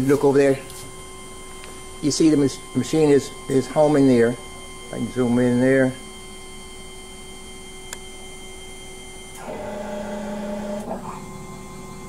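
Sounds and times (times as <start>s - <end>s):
faint steady hum: 0.0s - 12.0s
machine axis drive whine: 0.0s - 12.0s.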